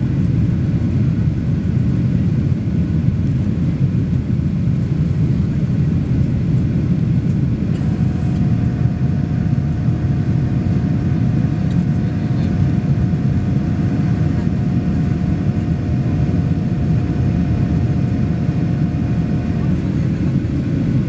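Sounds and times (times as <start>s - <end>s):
jet engine roar in cabin: 0.0s - 21.0s.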